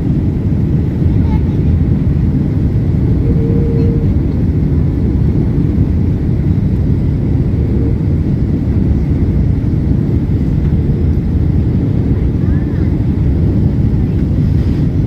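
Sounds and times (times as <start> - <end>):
airliner engine rumble: 0.0 - 15.0.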